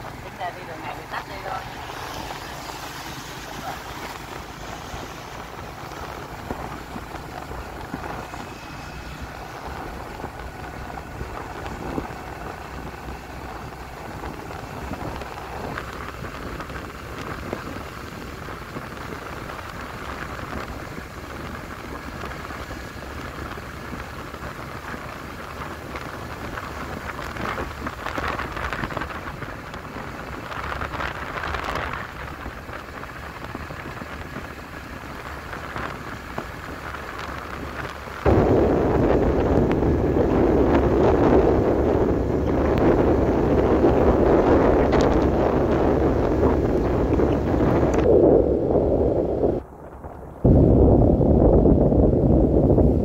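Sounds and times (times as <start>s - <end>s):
tyres hissing on wet road: 0.0s - 48.0s
faint motorbike engine whine: 0.0s - 53.0s
wind on microphone: 0.0s - 53.0s.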